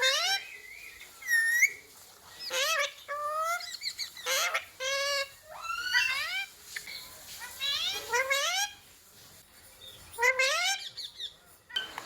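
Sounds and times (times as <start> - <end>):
parrot calls and squawks: 0.0 - 8.9, 10.0 - 12.0.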